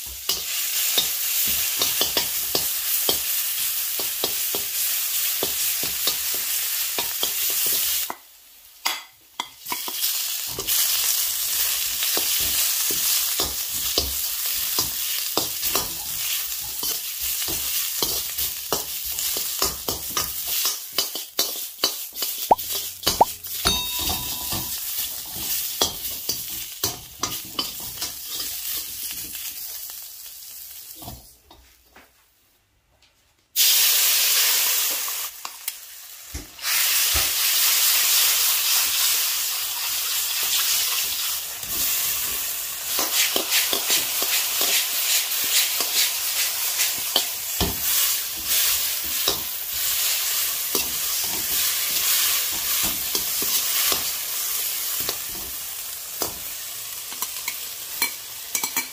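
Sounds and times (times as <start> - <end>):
sauce sizzling in hot wok: 0.0 - 31.2, 33.6 - 58.9.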